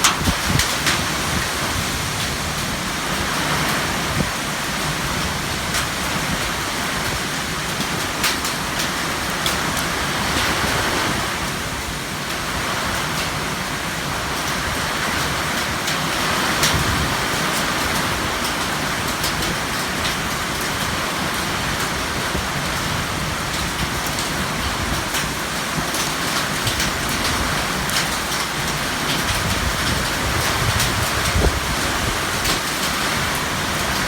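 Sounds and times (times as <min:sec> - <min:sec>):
raindrops ticking on surface: 0:00.0 - 0:10.8, 0:11.4 - 0:34.0
heavy rain falling: 0:00.0 - 0:34.0.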